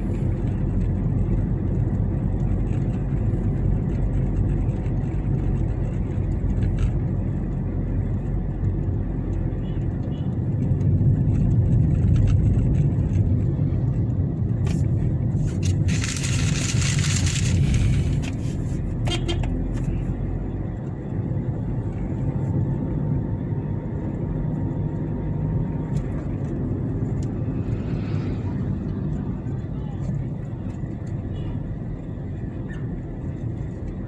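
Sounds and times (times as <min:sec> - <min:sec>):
vehicle rumble from on board: 0:00.0 - 0:34.0.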